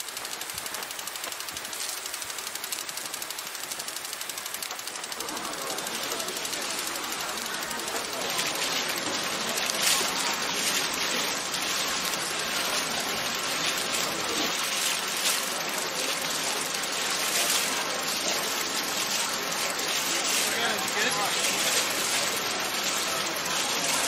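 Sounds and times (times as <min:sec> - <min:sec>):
steady rushing water: 0:00.0 - 0:24.0.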